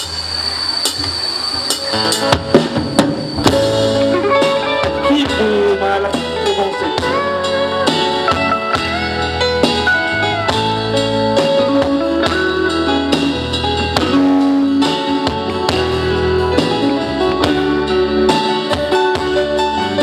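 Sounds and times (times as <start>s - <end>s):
bass: 0.0s - 20.0s
drum kit: 0.0s - 20.0s
guitar melody: 1.7s - 20.0s.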